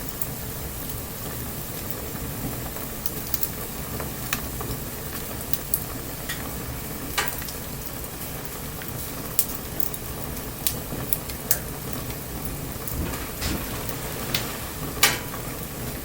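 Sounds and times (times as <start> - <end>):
wood bonfire crackling: 0.0 - 16.0.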